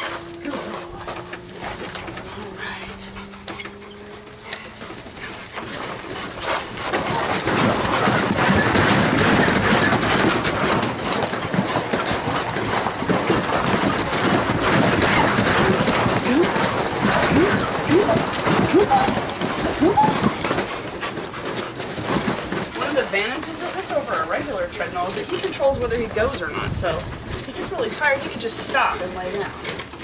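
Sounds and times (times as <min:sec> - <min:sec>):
dog paws pounding carpet belt: 0:00.0 - 0:30.0
wooden frame and rollers rattling: 0:00.0 - 0:30.0.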